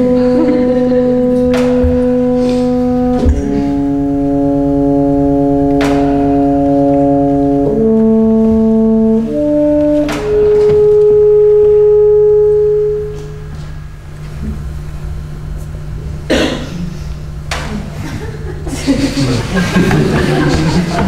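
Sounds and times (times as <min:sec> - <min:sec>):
slow music of held notes: 0:00.0 - 0:18.6
low drone: 0:00.0 - 0:21.0.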